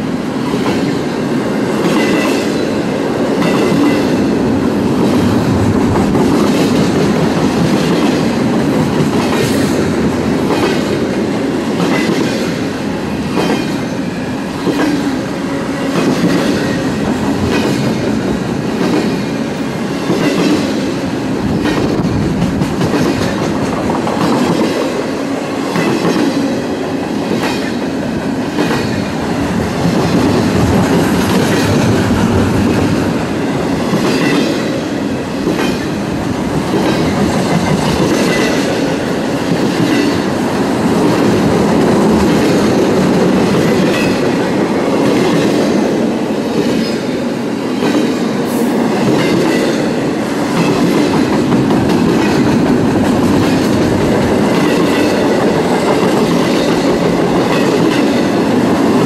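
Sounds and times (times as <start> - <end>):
freight train rumbling: 0.0 - 59.0.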